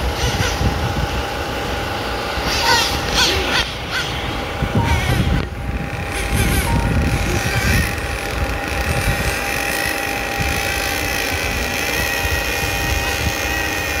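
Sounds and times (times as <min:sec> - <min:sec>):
rc cars whining: 0:00.0 - 0:14.0.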